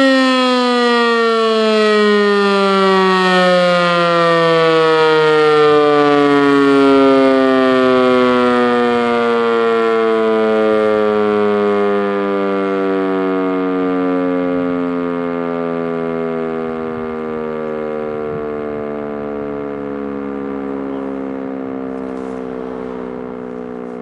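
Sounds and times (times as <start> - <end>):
fire siren winding down: 0.0 - 24.0.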